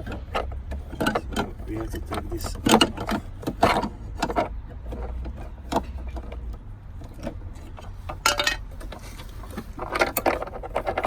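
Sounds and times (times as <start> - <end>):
hard parts clinking and rattling: 0.0 - 11.0.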